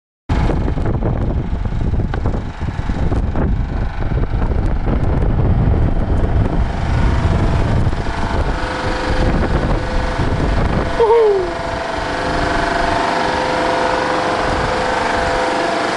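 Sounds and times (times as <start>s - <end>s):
air compressor engine running: 0.3s - 15.9s.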